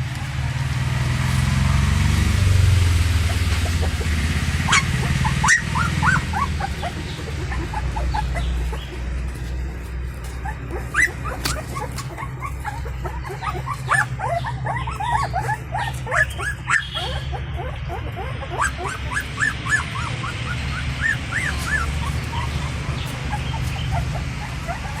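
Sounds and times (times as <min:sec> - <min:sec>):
puppies whimpering and squealing: 0:02.2 - 0:25.0.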